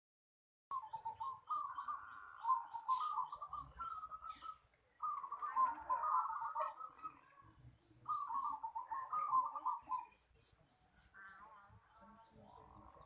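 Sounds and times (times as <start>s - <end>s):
dove cooing: 0.7s - 13.0s.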